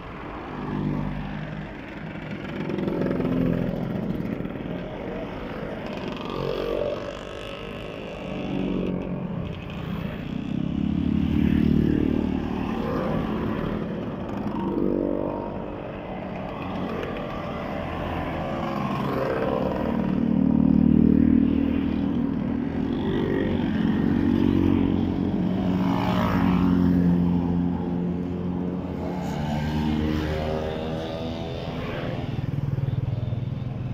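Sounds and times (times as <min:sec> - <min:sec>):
motor scooters riding past: 0:00.0 - 0:33.9.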